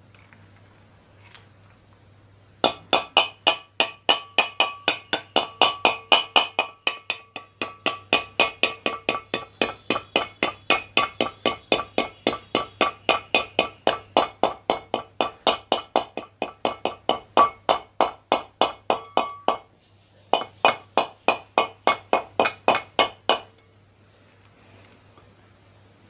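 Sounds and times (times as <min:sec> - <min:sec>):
hammer tapping metal: 0:02.6 - 0:23.7.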